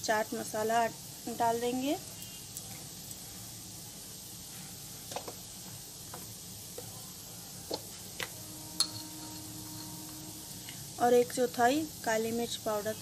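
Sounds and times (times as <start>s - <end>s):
potato frying in oil: 0.0s - 13.0s.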